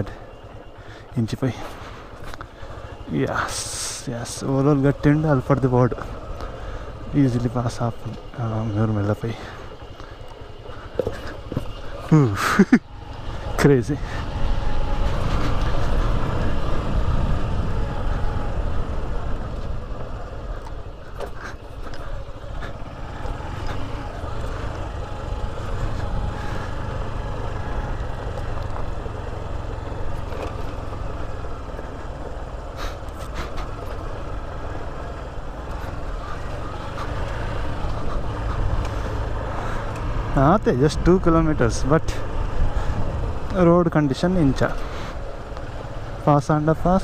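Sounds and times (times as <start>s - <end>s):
motorcycle engine rumble: 0.0s - 47.0s.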